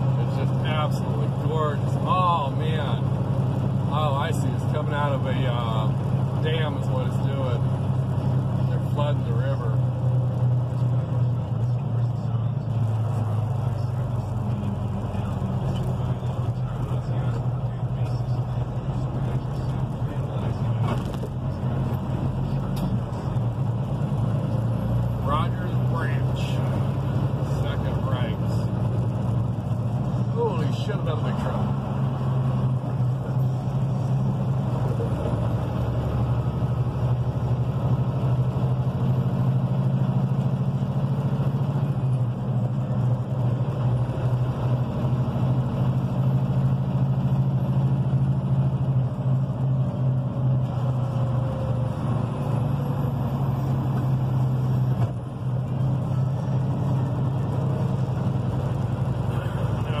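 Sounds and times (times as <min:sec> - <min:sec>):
road noise inside cab: 0:00.0 - 1:00.0
truck engine drone: 0:00.0 - 1:00.0.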